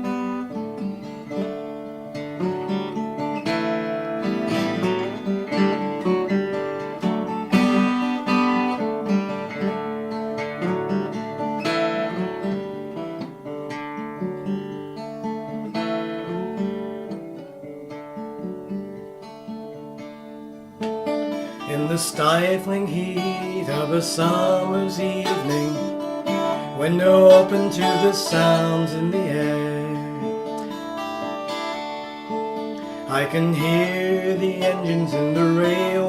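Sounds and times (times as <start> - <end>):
acoustic guitar chords: 0.0 - 36.0.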